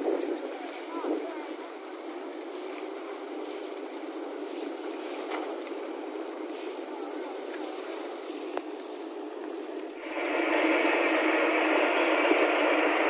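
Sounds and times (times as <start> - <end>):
fishing boat engines droning: 0.0 - 13.0.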